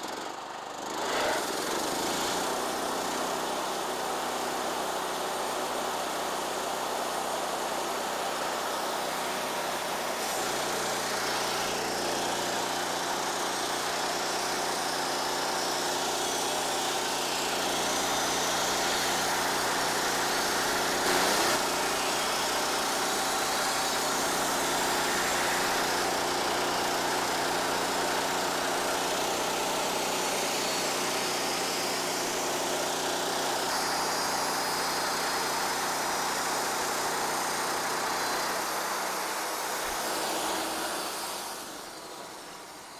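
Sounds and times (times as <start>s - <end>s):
band sawmill cutting log: 0.0s - 42.9s.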